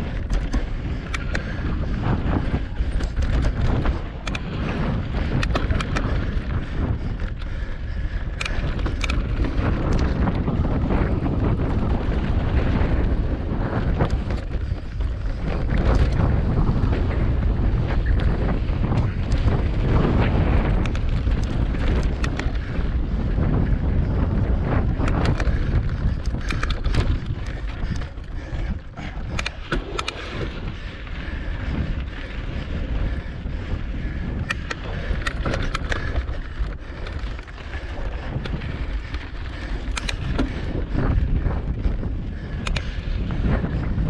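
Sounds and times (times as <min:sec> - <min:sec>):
bike clicks and rattles: 0:00.0 - 0:44.0
tyres on rocky dirt: 0:00.0 - 0:44.0
wind buffeting microphone: 0:00.0 - 0:44.0.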